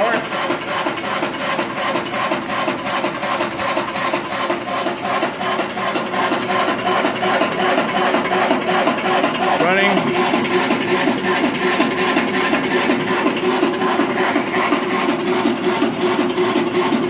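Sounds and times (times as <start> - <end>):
coffee roaster drum turning: 0.0 - 17.0
cooling fans rushing: 0.0 - 17.0.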